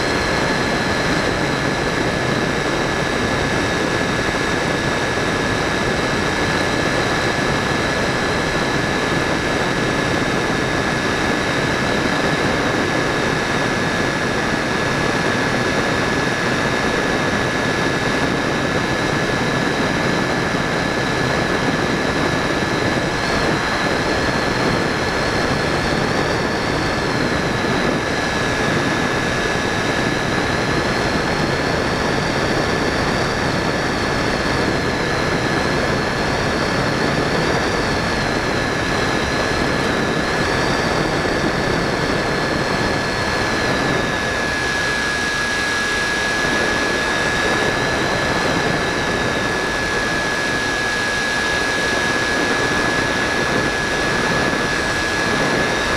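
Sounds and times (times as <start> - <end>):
high electric motor whine: 0.0 - 55.9
propeller and airflow rush: 0.0 - 55.9.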